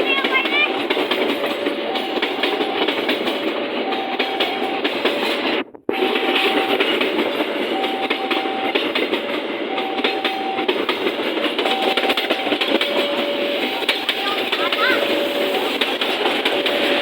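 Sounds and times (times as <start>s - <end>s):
train rumble and rail clatter: 0.0s - 17.0s.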